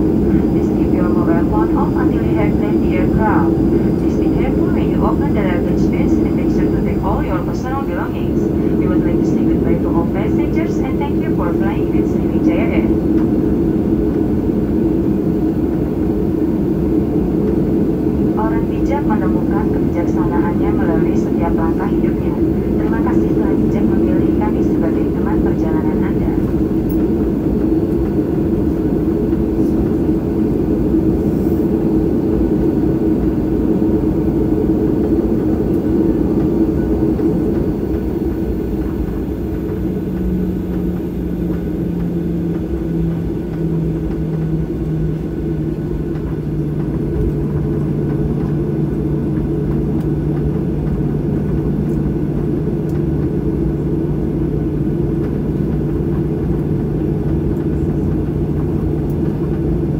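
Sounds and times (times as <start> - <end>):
jet cabin rumble: 0.0 - 59.9
lower hum stepping down: 0.0 - 59.9.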